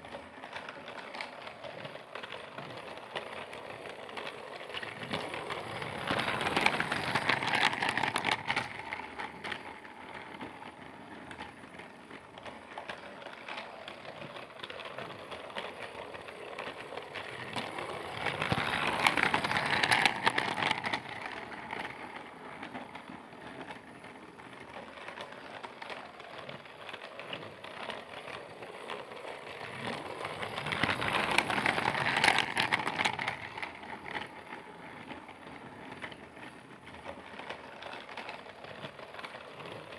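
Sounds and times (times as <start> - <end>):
toy train clicking rattle: 0.0 - 39.9.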